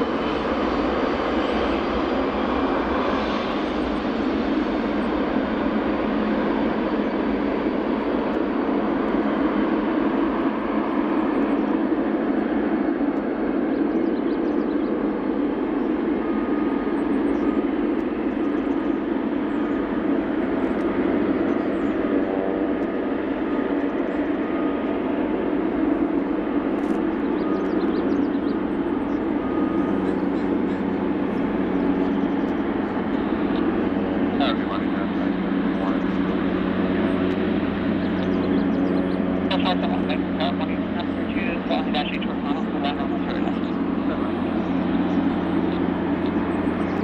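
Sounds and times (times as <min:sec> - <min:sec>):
jet engines running: 0:00.0 - 0:47.0.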